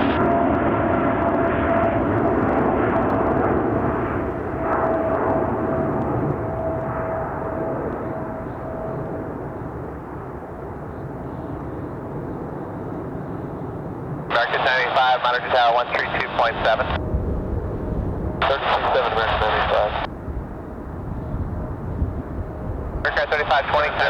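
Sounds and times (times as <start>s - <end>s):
jet engines rushing and whining: 0.0s - 24.0s.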